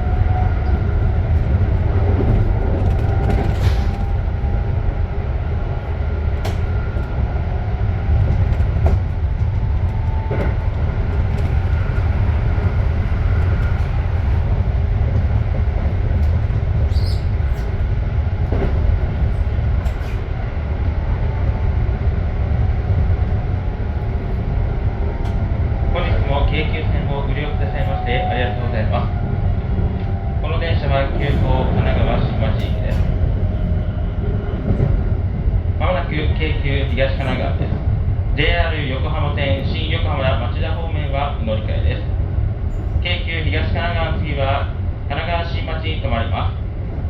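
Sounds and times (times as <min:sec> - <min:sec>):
train rumbling: 0:00.0 - 0:47.0.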